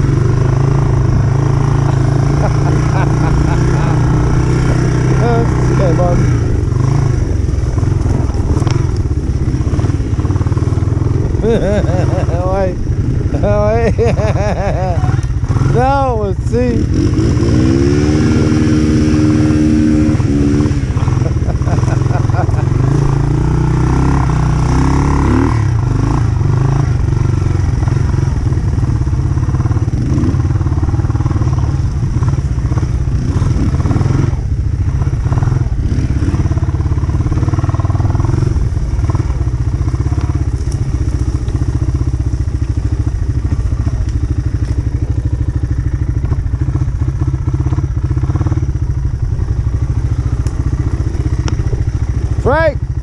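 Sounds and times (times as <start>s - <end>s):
loud engine running steadily: 0.0s - 53.0s.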